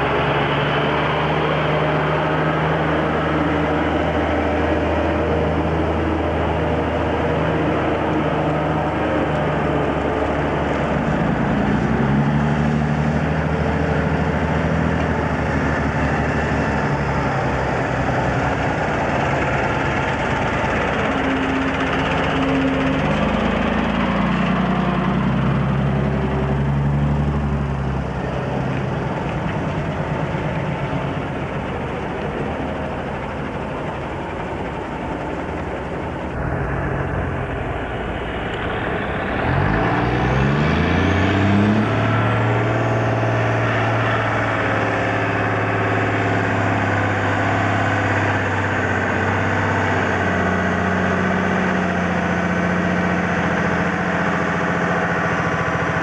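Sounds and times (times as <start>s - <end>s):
diesel truck engine rising in pitch: 0.0s - 56.0s
truck passing with tyre noise: 0.0s - 56.0s.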